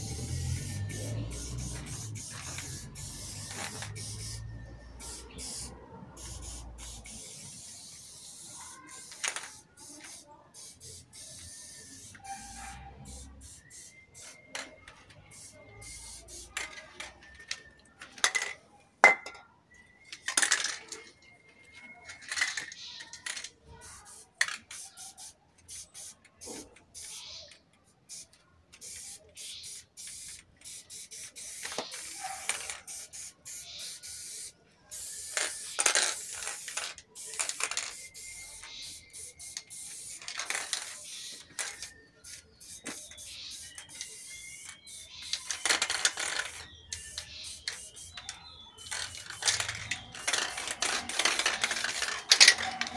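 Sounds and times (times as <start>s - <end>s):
spray-paint cans hissing: 0.0s - 19.4s, 22.1s - 52.9s.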